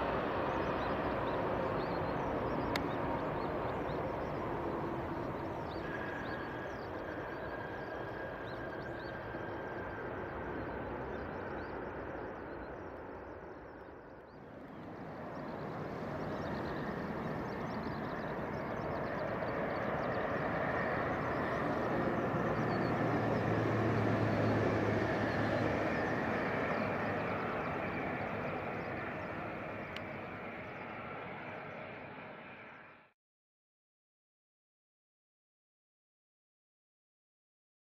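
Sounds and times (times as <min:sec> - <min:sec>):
jet airliner engines: 0:00.0 - 0:33.2.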